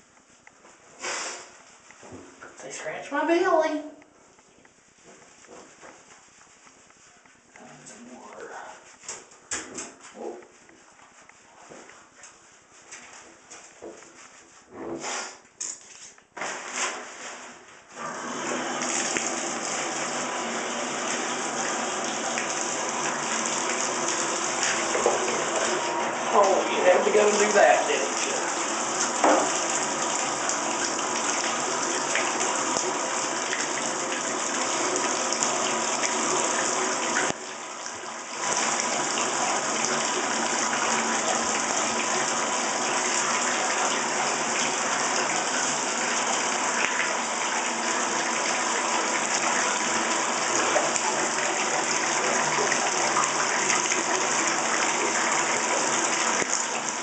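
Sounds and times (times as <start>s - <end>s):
water running into bathtub: 0.0s - 57.0s.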